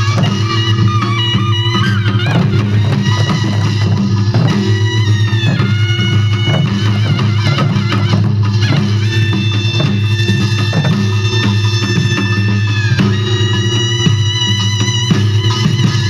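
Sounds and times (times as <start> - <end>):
drums beating: 0.0 - 16.0
wavering melody bending in pitch: 0.0 - 16.0.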